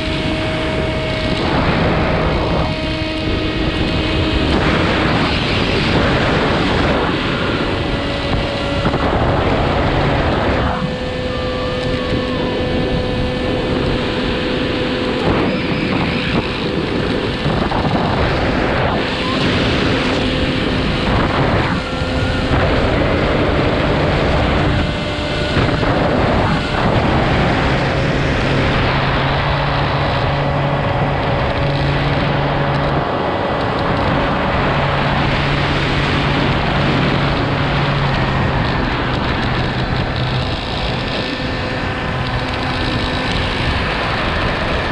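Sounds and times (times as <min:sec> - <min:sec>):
motor and propeller hum: 0:00.0 - 0:44.9
wind rushing over microphone: 0:00.0 - 0:44.9.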